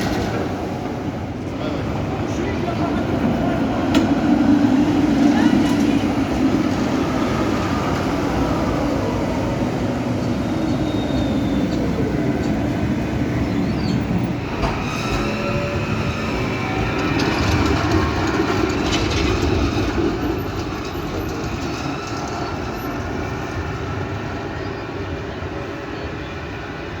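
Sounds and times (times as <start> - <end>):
tram wheels rumbling: 0.0 - 27.0.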